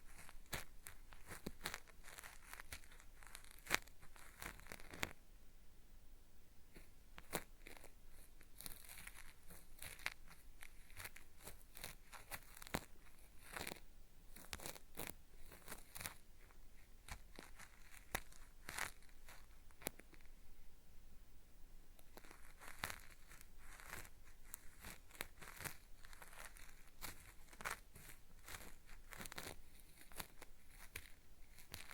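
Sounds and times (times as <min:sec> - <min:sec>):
cotton swab scraping microphone: 0:00.0 - 0:05.2, 0:06.7 - 0:20.3, 0:22.0 - 0:31.9.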